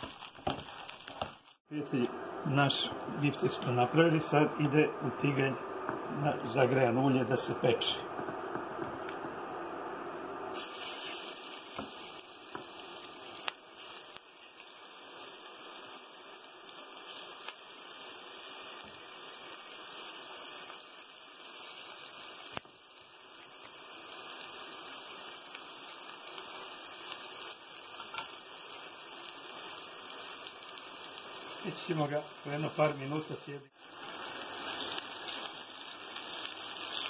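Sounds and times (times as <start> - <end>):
patties sizzling in oil: 0.0 - 37.0.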